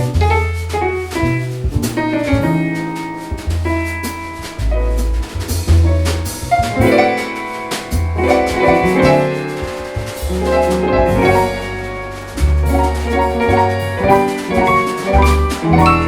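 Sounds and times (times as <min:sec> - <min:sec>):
double bass notes: 0:00.0 - 0:16.0
drum kit: 0:00.0 - 0:16.0.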